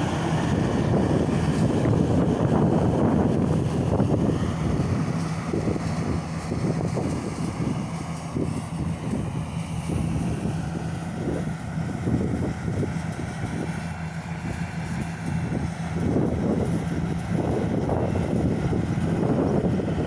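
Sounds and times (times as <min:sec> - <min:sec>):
engine humming: 0:00.0 - 0:20.0
wind on microphone: 0:00.0 - 0:20.0.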